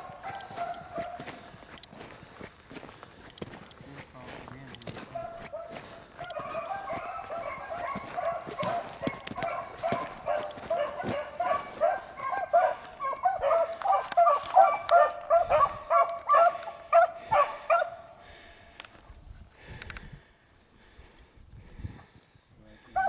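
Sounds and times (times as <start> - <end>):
dogs baying: 0.0 - 18.6.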